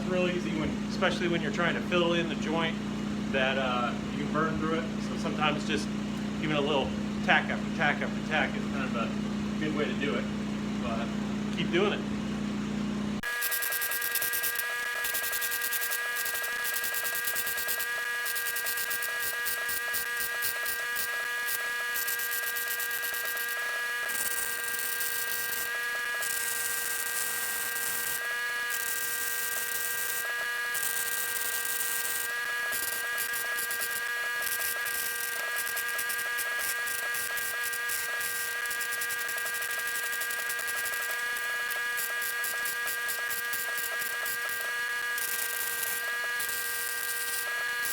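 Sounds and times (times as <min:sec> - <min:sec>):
arc welder buzzing and crackling: 0:00.0 - 0:47.9.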